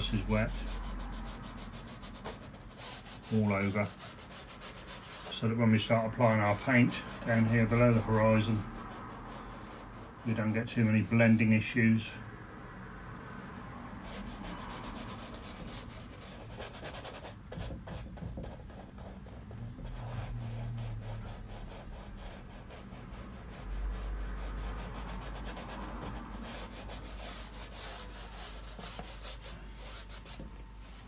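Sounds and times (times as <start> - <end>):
paintbrush scrubbing on canvas: 0.0 - 11.6, 14.0 - 31.0.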